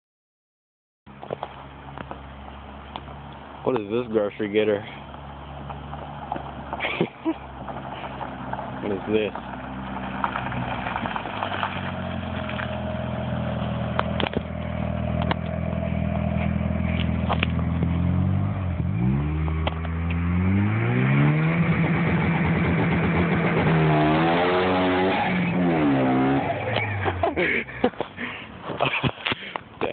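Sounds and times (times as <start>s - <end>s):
car engine revving: 2.4s - 28.0s.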